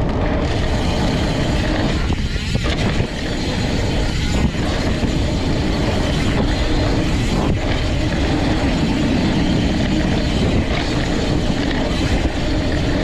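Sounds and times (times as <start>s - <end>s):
bike tyres rumbling on dirt: 0.0s - 13.0s
wind rushing over microphone: 0.0s - 13.0s.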